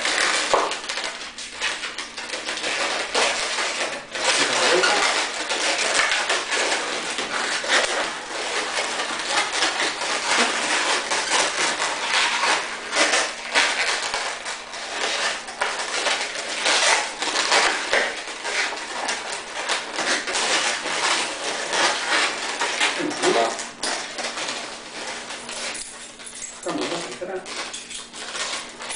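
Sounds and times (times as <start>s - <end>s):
balloons squeaking and rubbing: 0.0s - 28.9s.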